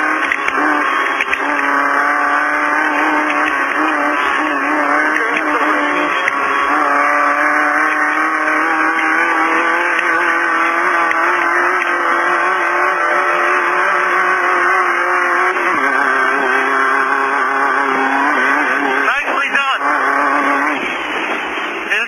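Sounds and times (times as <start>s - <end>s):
race car engine revving high: 0.0s - 22.0s.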